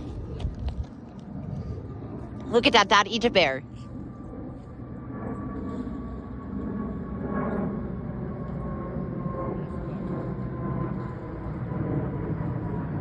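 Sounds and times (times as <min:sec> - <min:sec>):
faint engine whine: 0:00.0 - 0:13.0
jet engines rumbling: 0:00.0 - 0:13.0.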